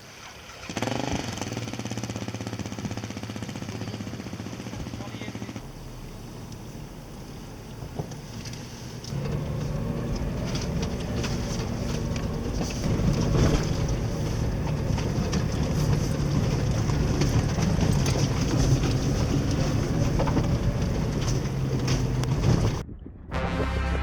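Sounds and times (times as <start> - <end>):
vehicle engine running under load: 0.6 - 24.0.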